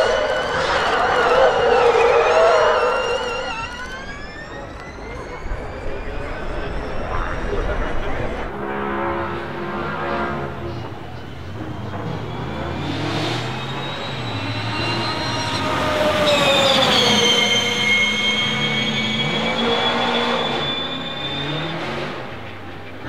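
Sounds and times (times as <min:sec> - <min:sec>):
electric car drive whine: 0:00.0 - 0:08.5, 0:10.5 - 0:23.0
tyre and road noise: 0:03.9 - 0:23.0.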